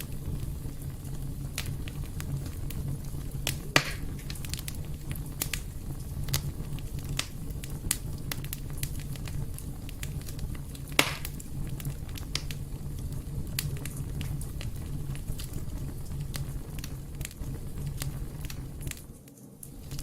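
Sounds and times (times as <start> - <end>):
fireplace fire crackling: 0.0 - 20.0
low rumble: 0.0 - 20.0.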